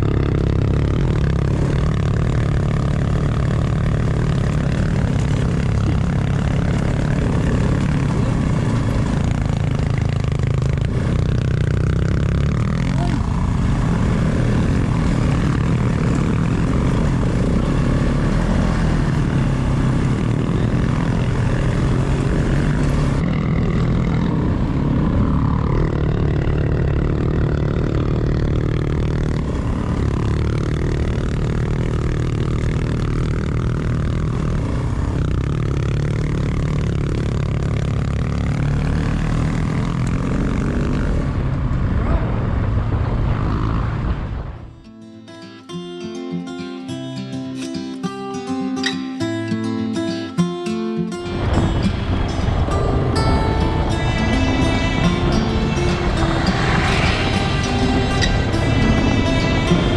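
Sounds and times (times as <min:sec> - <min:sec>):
wind and road noise: 0:00.0 - 0:44.9, 0:51.2 - 0:59.9
motorcycle engine running: 0:00.0 - 0:46.6, 0:49.2 - 0:59.9.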